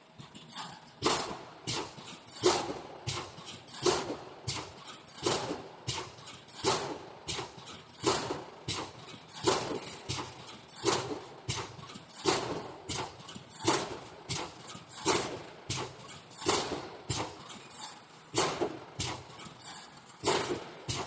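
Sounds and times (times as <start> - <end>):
welding machine mechanical clanks: 0.0 - 21.0.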